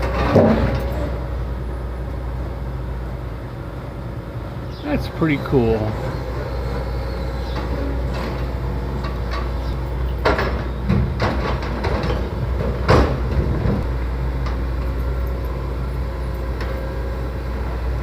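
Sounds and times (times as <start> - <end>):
train rolling on rails: 0.0 - 18.0.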